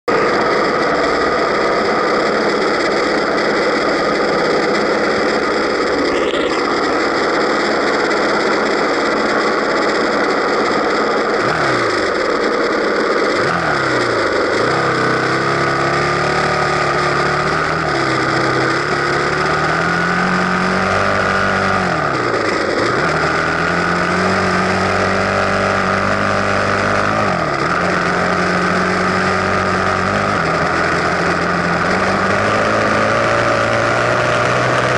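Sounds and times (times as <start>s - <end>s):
dirt bike engine revving: 0.0s - 34.9s
steady rushing noise: 0.0s - 34.9s.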